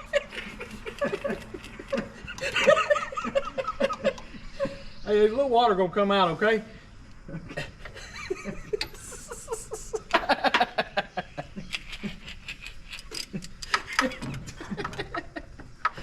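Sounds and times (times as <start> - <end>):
people laughing: 0.0 - 4.9, 7.3 - 15.8.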